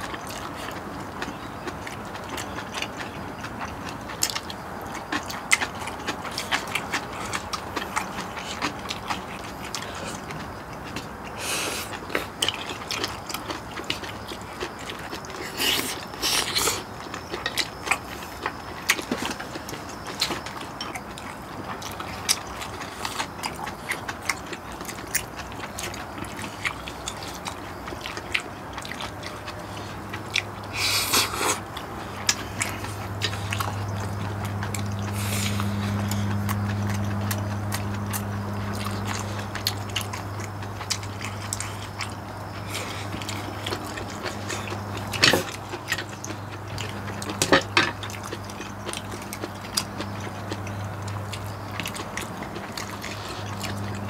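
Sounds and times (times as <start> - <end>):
close chewing: 0.0 - 54.0
steady low hum: 0.0 - 54.0.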